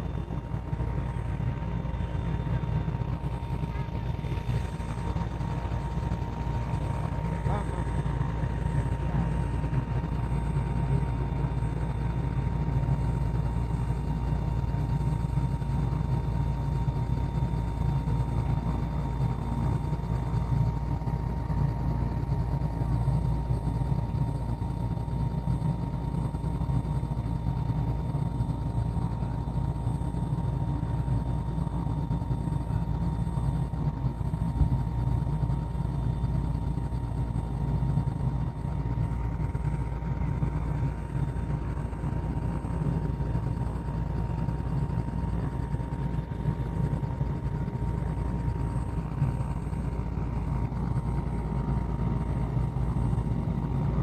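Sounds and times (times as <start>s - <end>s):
helicopter engine and rotor drone: 0.0s - 54.0s
thin whine: 0.0s - 54.0s.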